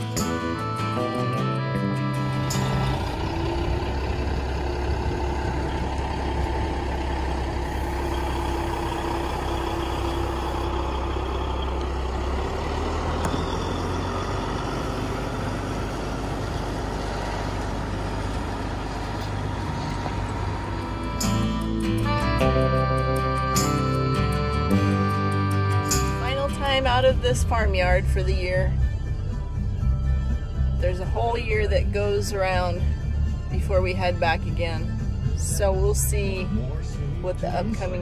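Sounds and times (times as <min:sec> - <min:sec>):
road and trailer noise: 0:00.0 - 0:38.0
truck diesel engine: 0:00.0 - 0:38.0.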